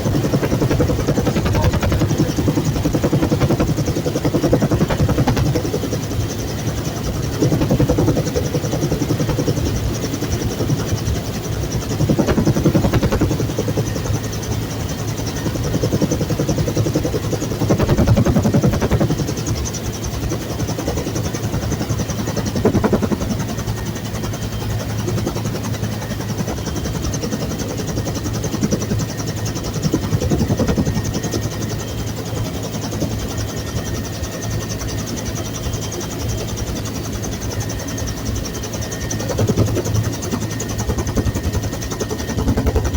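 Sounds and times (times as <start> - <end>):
helicopter turbine and rotor noise: 0.0 - 42.9.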